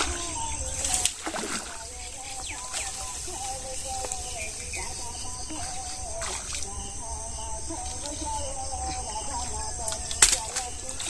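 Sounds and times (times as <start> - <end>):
steady high hiss: 0.0 - 11.0
water splashing and sloshing: 0.0 - 11.0.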